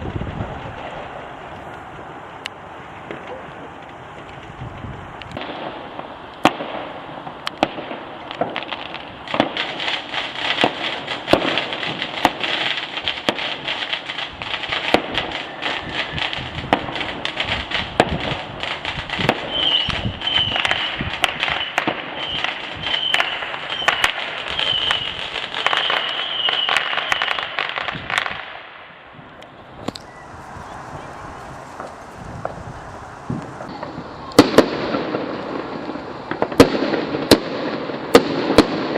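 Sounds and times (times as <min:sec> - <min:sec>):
firework whistling: 0:00.0 - 0:38.9
fireworks bangs and crackling: 0:00.0 - 0:38.9.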